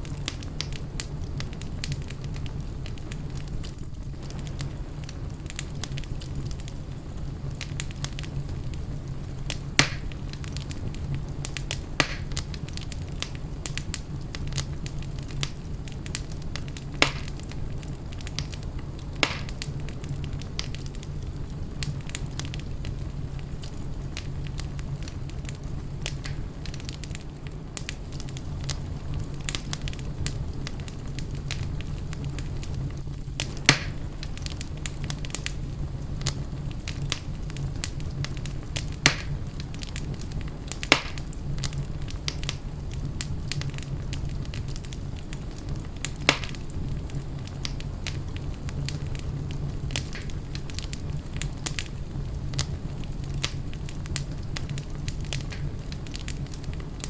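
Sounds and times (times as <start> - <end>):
fire low rumble: 0.0 - 57.0
sharp pops of fire: 0.0 - 57.0
wood fire crackling: 0.0 - 57.0.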